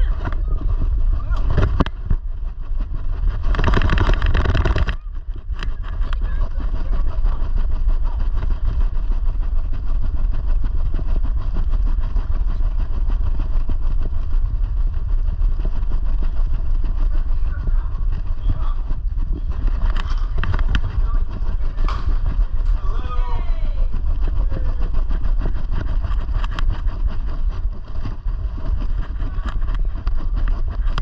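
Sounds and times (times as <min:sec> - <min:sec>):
wind buffeting camera: 0:00.0 - 0:31.0.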